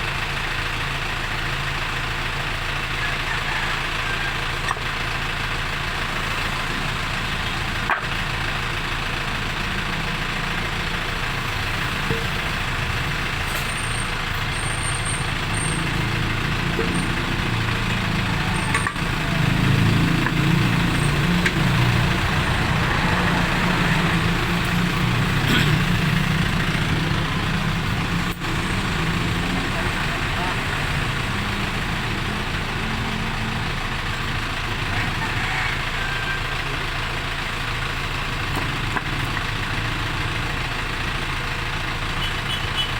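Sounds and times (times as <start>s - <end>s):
vehicle engine idling: 0.0s - 42.9s.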